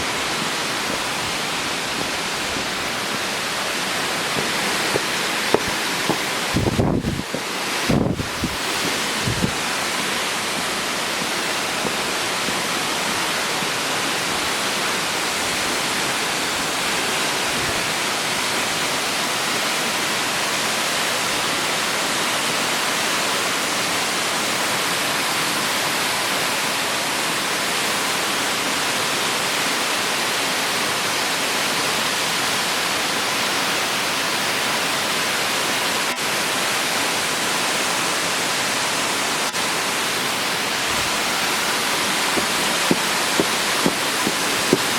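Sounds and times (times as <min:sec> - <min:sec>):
waterfall rushing into pool: 0:00.0 - 0:44.9.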